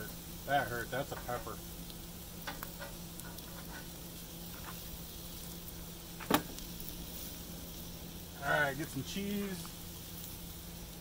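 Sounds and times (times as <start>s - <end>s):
steak sizzling on a griddle: 0.0s - 11.0s.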